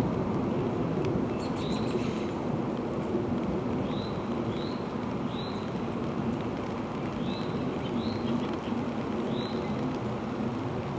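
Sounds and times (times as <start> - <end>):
low rushing background noise: 0.0 - 10.9.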